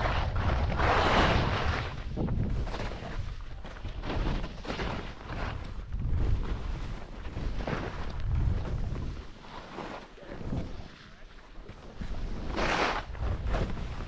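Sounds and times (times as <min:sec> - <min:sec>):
wind buffeting microphone: 0:00.0 - 0:09.5, 0:11.6 - 0:14.0.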